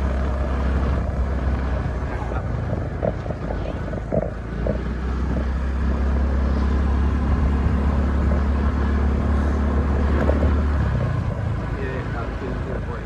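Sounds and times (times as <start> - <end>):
motorbike engine drone: 0.0 - 13.0
wind rumble: 0.0 - 13.0.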